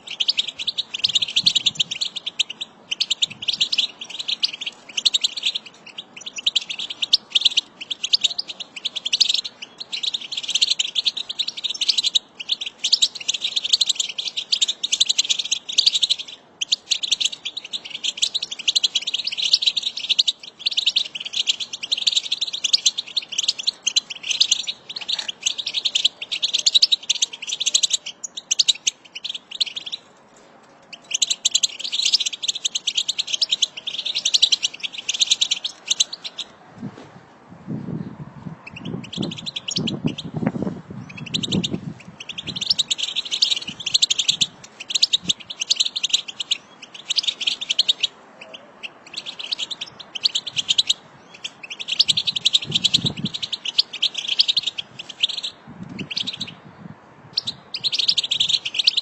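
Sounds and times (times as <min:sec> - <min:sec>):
flock of finches twittering: 0:00.0 - 0:30.0, 0:38.6 - 0:40.4, 0:41.1 - 0:56.5, 0:57.4 - 0:59.0.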